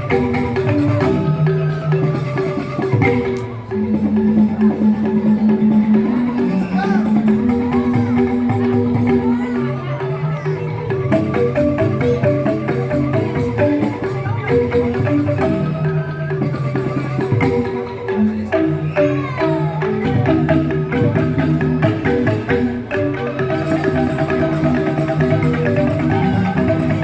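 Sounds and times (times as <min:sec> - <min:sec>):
bamboo xylophone ensemble: 0:00.0 - 0:27.0.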